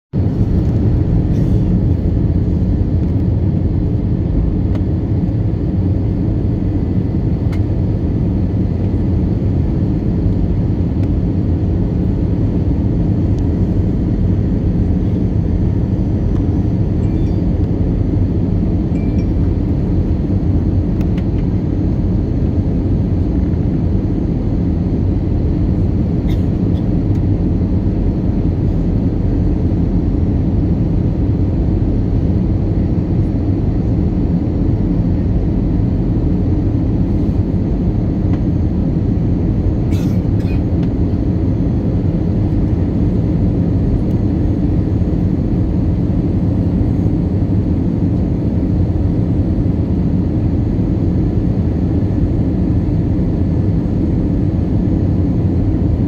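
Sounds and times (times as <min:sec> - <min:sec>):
airliner cabin roar: 0:00.1 - 0:56.0.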